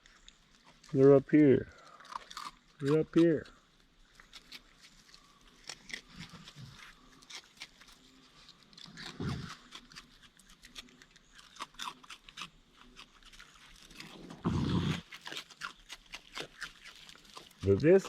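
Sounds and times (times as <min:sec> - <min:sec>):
raccoons crunching cereal: 0:00.0 - 0:18.0.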